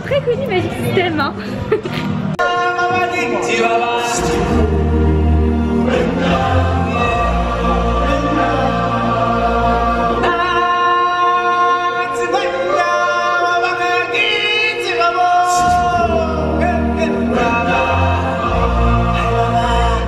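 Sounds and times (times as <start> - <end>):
band accompaniment: 0.0 - 20.0
lead singer with choir: 2.3 - 20.0.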